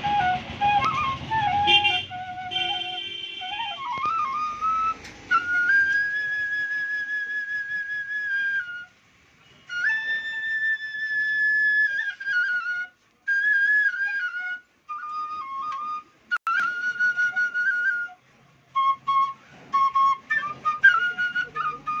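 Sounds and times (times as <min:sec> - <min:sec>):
bamboo flute playing: 0:00.0 - 0:22.0.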